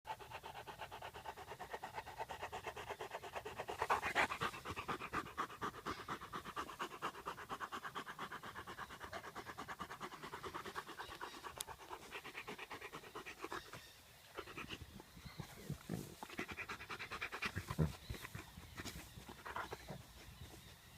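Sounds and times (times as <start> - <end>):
dog panting rapidly: 0.1 - 13.8, 16.2 - 20.3.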